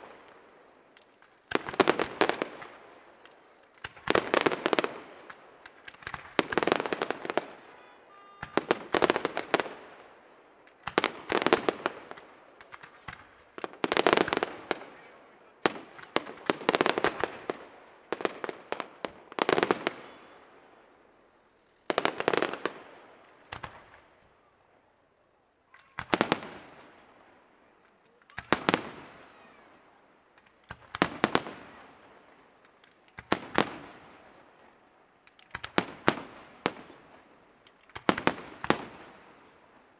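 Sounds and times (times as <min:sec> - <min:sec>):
fireworks bursting with bangs: 0:00.0 - 0:39.9
fireworks crackle: 0:00.0 - 0:39.9.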